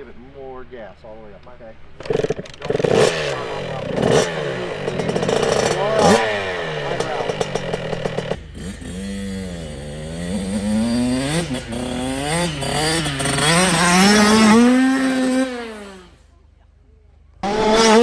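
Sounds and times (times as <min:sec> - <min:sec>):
dirt bike engine revving: 0:01.6 - 0:16.2, 0:17.4 - 0:18.0.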